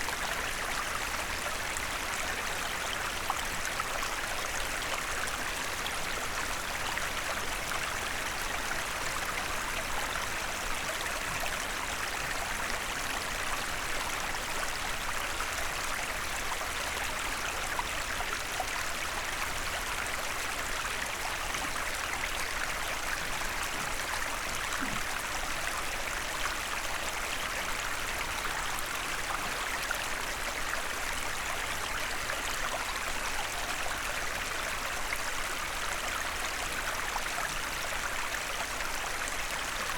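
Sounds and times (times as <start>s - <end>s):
stream burbling over stones: 0.0s - 39.9s.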